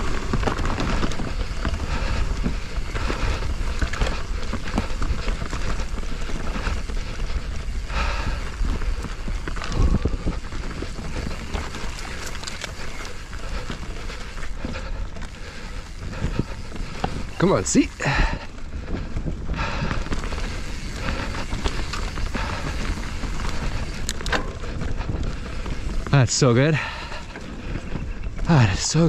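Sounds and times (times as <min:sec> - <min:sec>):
bike knocking and rattling: 0:00.0 - 0:29.0
bike tyres on dirt: 0:00.0 - 0:29.0.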